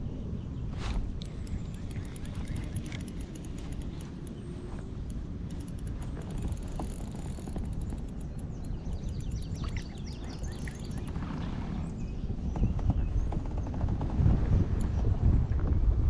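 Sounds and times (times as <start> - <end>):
wind buffeting microphone: 0.2 - 16.0.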